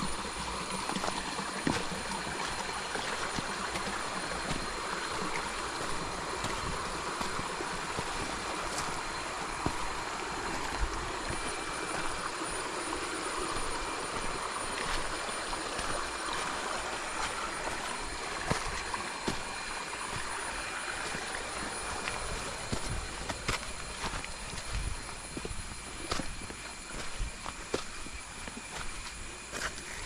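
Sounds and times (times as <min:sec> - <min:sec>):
flowing creek water: 0:00.0 - 0:30.0.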